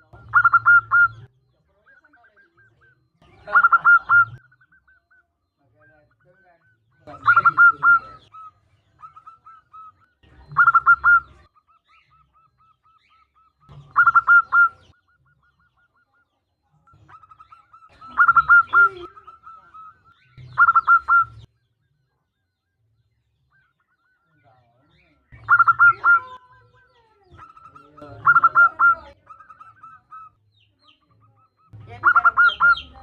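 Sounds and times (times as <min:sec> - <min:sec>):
dove cooing: 0:00.0 - 0:21.5, 0:24.9 - 0:33.0.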